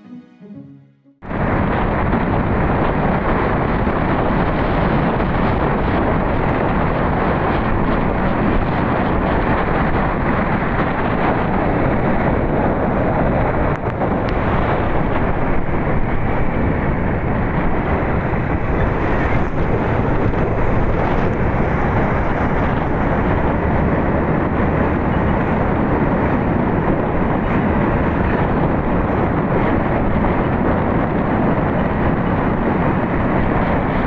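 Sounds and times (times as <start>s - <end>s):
road noise: 1.2s - 34.0s
wind rushing over microphone: 1.2s - 34.0s.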